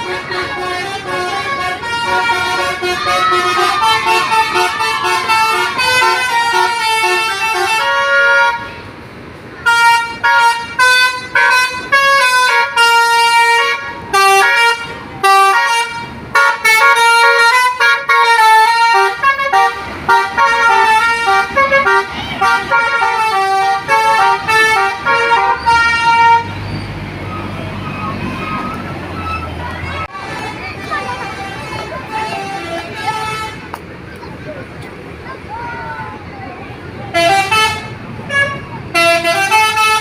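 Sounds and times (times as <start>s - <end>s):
multi-tone bus horns playing melodies: 0.0s - 34.0s, 37.1s - 40.0s.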